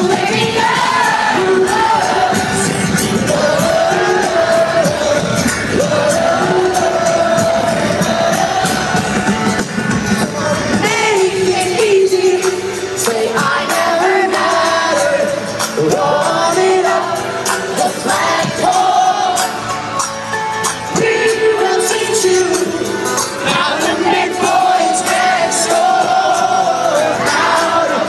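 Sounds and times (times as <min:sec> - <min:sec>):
man singing: 0:00.0 - 0:19.6, 0:20.9 - 0:28.0
acoustic guitar: 0:00.0 - 0:28.0
crowd voices: 0:00.0 - 0:28.0
live rock band: 0:00.0 - 0:28.0.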